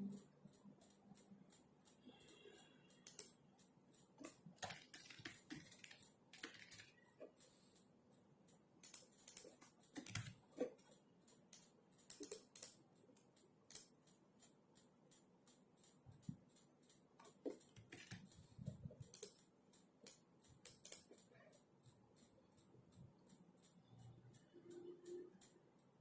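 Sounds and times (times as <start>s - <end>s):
typing on computer keyboard: 0.0s - 26.0s.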